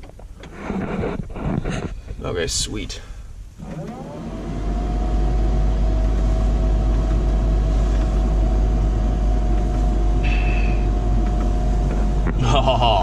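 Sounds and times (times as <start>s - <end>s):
diesel engine rumbling: 2.0s - 13.0s.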